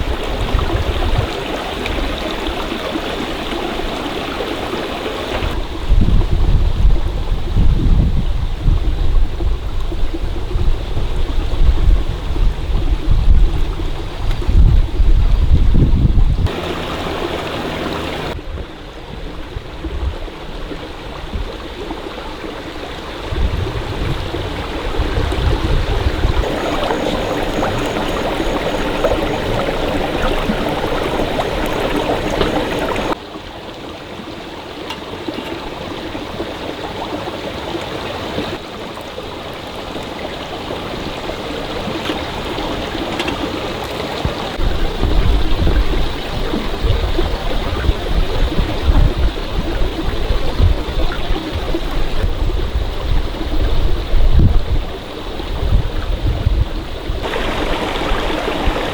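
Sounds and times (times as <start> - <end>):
small stream flowing: 0.0 - 58.9.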